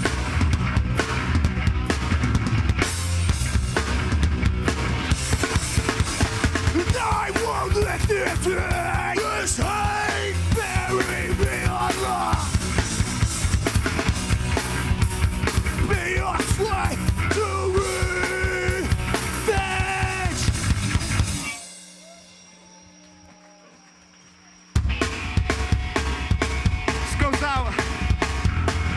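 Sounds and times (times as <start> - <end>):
loud distorted guitar: 0.0 - 22.0, 24.8 - 28.9.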